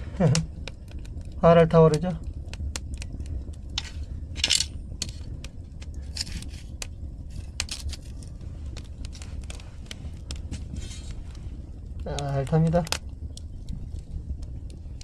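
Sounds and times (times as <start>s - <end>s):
fire hissing burst: 0.0s - 15.0s
firewood crackling and popping: 0.0s - 15.0s
low fire rumble: 0.0s - 15.0s.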